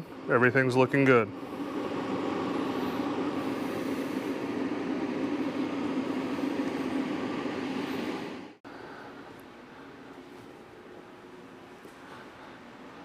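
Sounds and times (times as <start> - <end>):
electric heater fan humming: 0.0 - 13.0.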